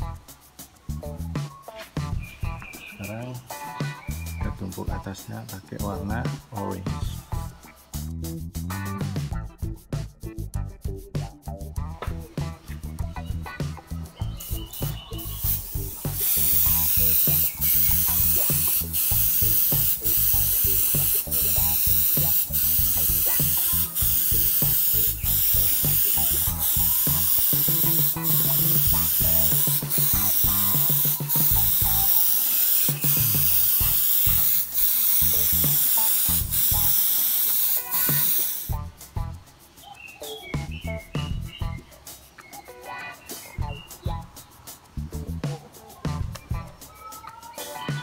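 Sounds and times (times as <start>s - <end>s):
airbrush spraying hiss: 0.0s - 9.2s, 11.2s - 48.0s.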